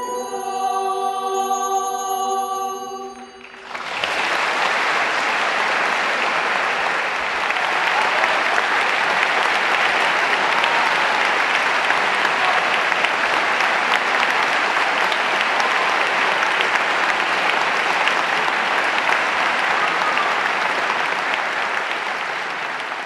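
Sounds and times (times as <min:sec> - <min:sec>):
audience applauding: 0:02.8 - 0:23.0.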